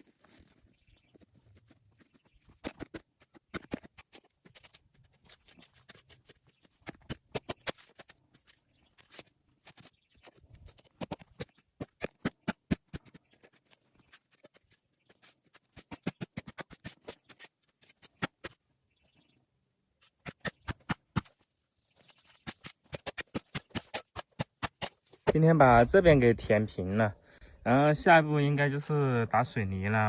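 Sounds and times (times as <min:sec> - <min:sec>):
hand tools scraping ground: 0:00.0 - 0:18.6, 0:20.0 - 0:25.9.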